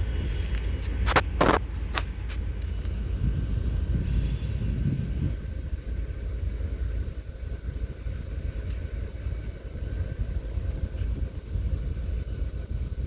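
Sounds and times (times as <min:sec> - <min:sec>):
faint high whine: 0:00.0 - 0:13.0
rumble of railyard machinery: 0:00.0 - 0:13.0.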